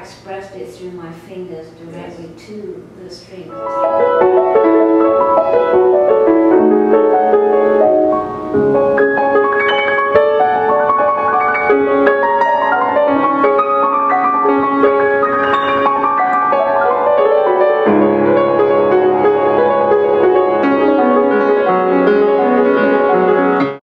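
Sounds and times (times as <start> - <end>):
grand piano run of notes: 3.4 - 23.8
deep piano bass notes: 3.5 - 23.8.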